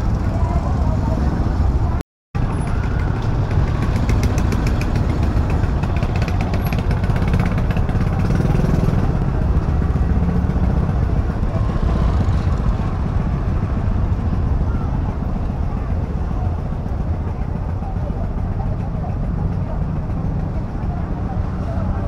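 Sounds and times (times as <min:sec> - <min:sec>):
market street ambience: 0:00.0 - 0:22.0
motorbike engines running: 0:00.0 - 0:22.0.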